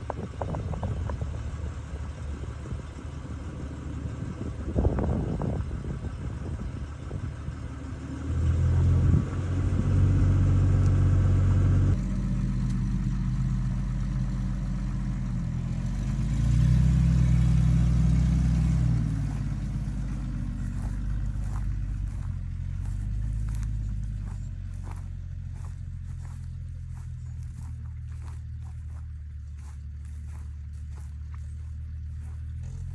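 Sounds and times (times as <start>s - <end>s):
vehicle engine running: 0.0s - 32.9s.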